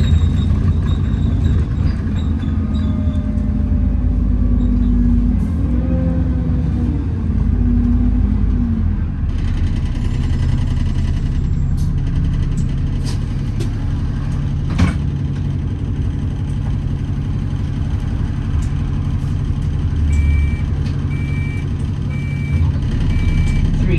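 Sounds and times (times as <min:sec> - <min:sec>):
bus engine drone: 0:00.0 - 0:23.9
pitched drivetrain whine: 0:00.0 - 0:23.9.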